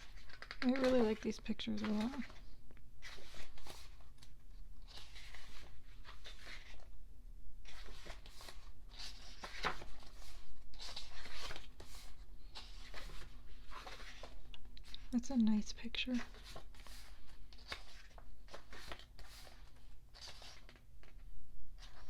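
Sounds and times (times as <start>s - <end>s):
glossy pages turning: 0.0s - 6.9s, 7.6s - 15.1s, 16.0s - 22.0s.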